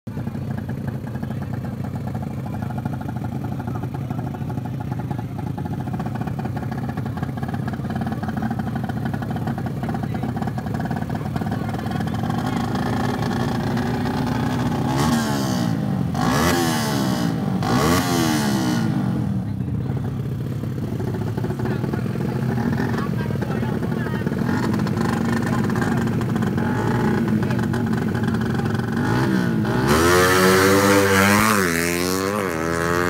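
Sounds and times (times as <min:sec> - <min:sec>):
motorcycle engine idling and revving: 0:00.1 - 0:33.0.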